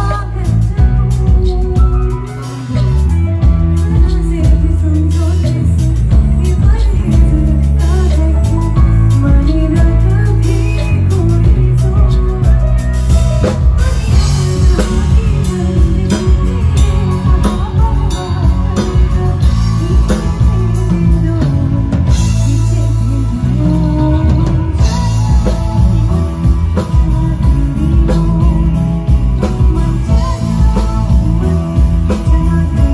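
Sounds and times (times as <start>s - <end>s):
drum kit: 0.0s - 32.9s
electric guitar: 0.0s - 32.9s
keyboard: 0.0s - 32.9s
woman singing into microphone: 0.0s - 32.9s.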